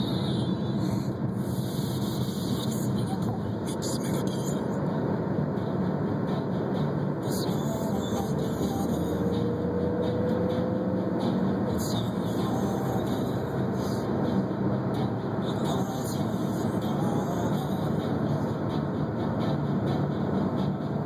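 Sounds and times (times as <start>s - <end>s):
car road noise: 0.0s - 21.0s.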